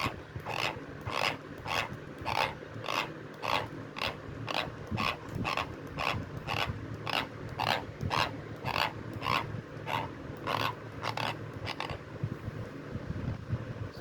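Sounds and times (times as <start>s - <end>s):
teeth grinding: 0.0s - 12.0s.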